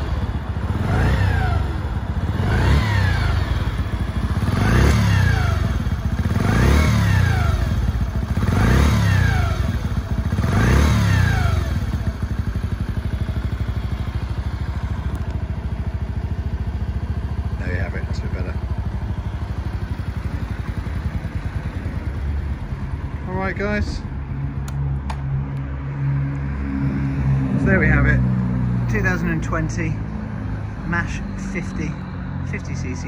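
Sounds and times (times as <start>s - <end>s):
motorcycle engine idling: 0.0s - 33.0s
motorcycle engine revving: 0.0s - 33.0s.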